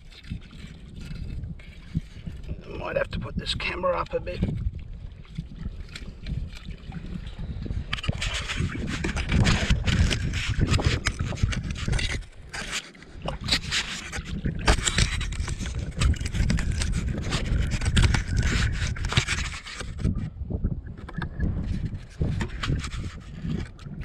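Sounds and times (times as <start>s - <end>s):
footsteps wading through water: 0.0s - 2.7s, 3.6s - 20.3s
rubbing on microphone: 0.0s - 4.8s, 5.4s - 24.0s.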